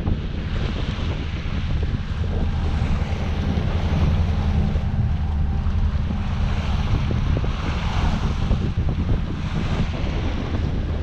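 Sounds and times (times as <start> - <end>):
sea water rushing along hull: 0.0 - 11.0
wind noise on microphone: 0.0 - 11.0.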